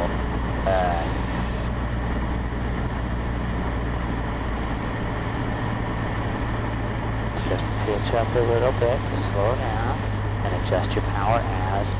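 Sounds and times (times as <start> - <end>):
small plane engine drone: 0.0 - 11.9.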